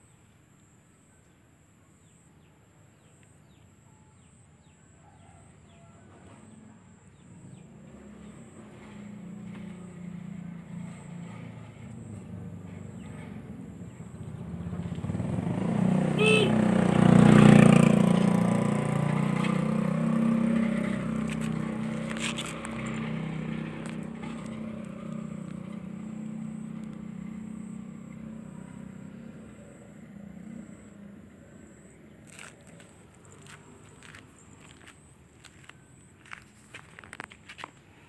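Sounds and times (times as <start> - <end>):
vehicle passing on road: 6.1 - 38.0.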